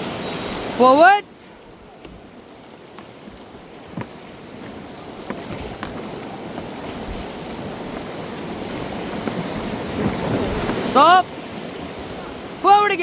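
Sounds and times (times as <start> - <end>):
white-water river rushing: 0.0 - 13.0.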